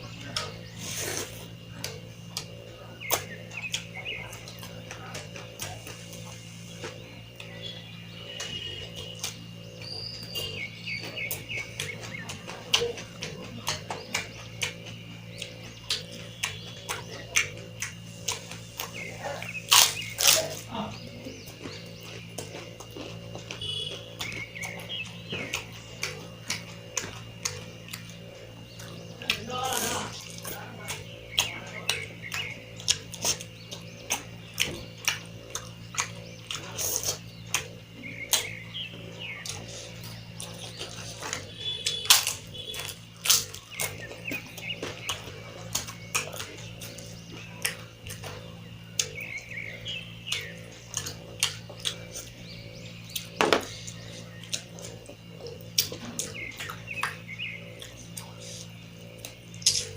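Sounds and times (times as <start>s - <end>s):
bird chirping: 0.0s - 59.9s
steady low hum: 0.0s - 59.9s
wet chewing mouth sounds: 0.0s - 59.9s.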